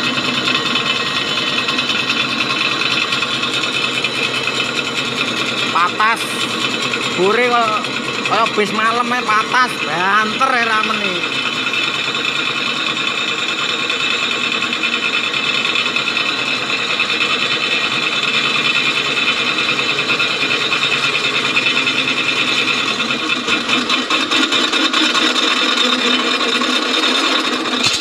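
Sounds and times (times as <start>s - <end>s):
drill press cutting metal: 0.0s - 28.0s.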